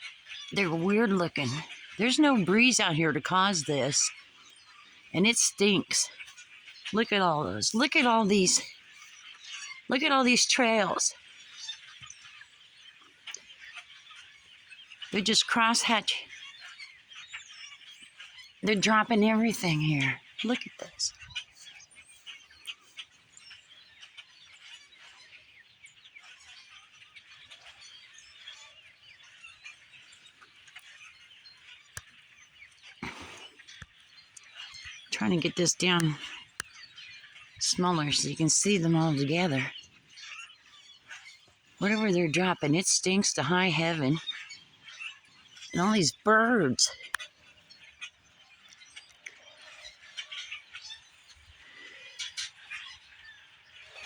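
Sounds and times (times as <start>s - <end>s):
flock of birds chirping: 0.0s - 54.0s.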